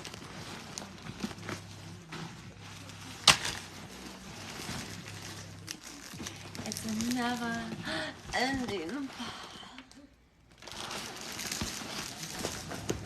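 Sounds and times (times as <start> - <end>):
clothes rustling: 0.0 - 9.6, 10.4 - 13.0.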